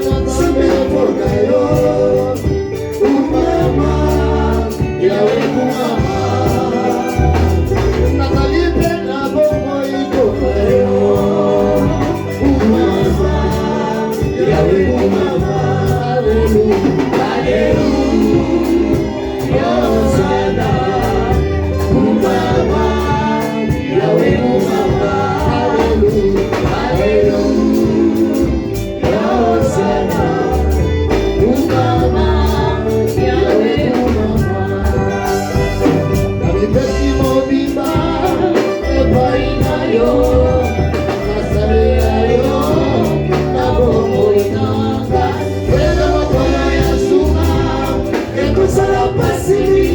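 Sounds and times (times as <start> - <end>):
band with bass and beat: 0.0 - 49.9
choir singing gospel song: 0.0 - 49.9.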